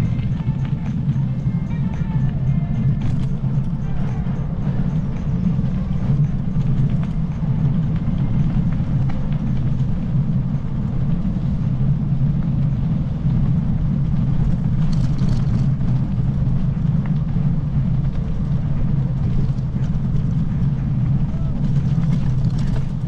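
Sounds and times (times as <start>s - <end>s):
faint rattles: 0.0s - 23.0s
vehicle rolling on paved road: 0.0s - 23.0s.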